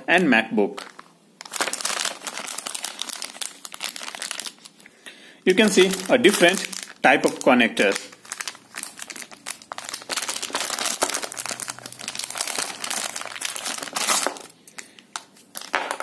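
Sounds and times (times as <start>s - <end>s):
plastic bag crinkling: 0.6s - 4.9s, 5.5s - 16.0s.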